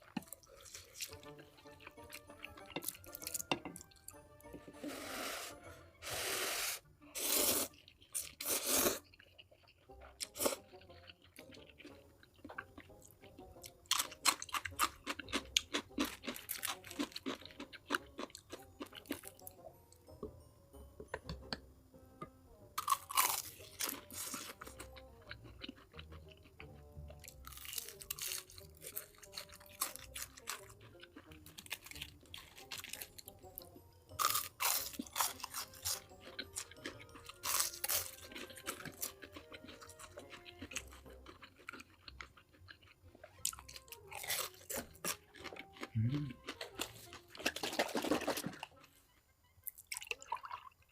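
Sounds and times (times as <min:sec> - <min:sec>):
crunching and chewing food: 0:00.0 - 0:04.8, 0:07.0 - 0:20.2, 0:22.8 - 0:50.9
soft background music: 0:00.0 - 0:50.9.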